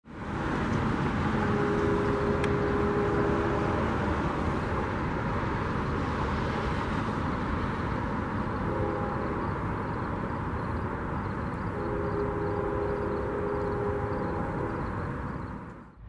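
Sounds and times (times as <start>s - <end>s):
wheels rumbling on rail: 0.0s - 16.0s
diesel locomotive engines: 0.1s - 16.0s.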